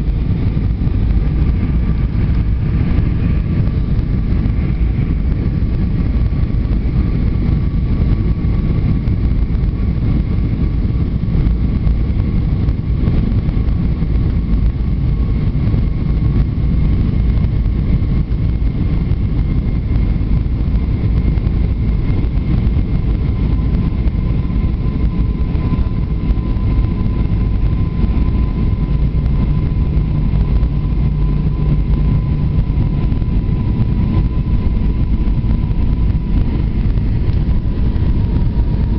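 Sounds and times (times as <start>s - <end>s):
aircraft engine and airflow rush: 0.0s - 38.9s
faint high whine: 0.0s - 38.9s
low hum: 0.0s - 38.9s.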